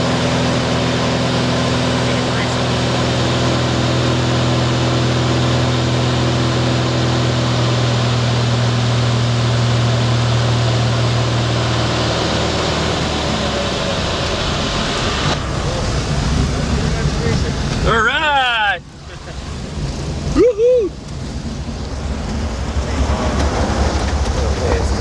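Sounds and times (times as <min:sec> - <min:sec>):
cockpit air noise: 0:00.0 - 0:25.0
propeller engine droning: 0:00.0 - 0:25.0.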